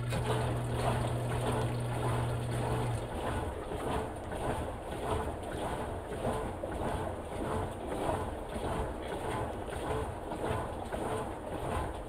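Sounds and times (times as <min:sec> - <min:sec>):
washing machine water sloshing: 0:00.0 - 0:12.0.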